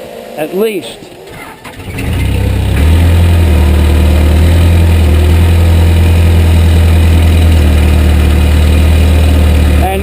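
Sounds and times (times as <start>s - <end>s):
diesel engine idling: 0.2s - 10.0s.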